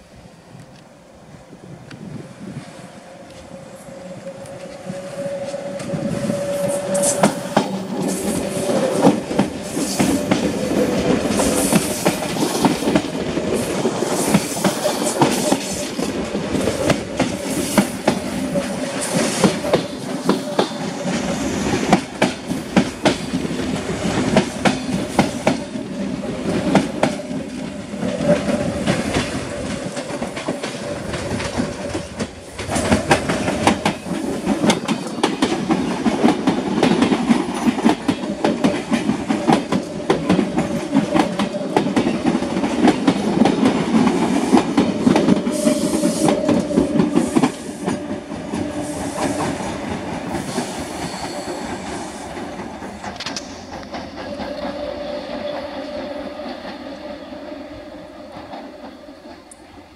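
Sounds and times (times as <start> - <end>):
train humming tone: 0.0 - 59.9
train wheels clattering over joints: 5.3 - 57.2.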